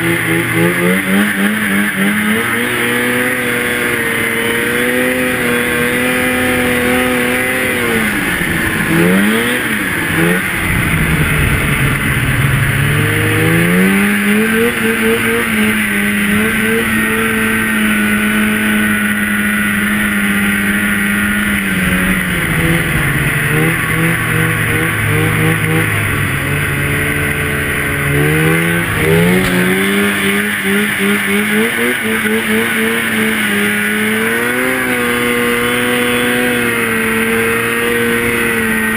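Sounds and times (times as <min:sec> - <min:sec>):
snowmobile engine running hard: 0:00.0 - 0:38.9.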